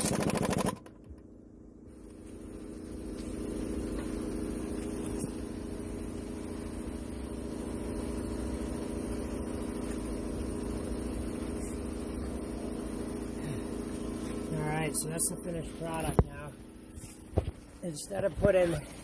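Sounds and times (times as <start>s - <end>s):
motor humming: 1.9s - 19.0s.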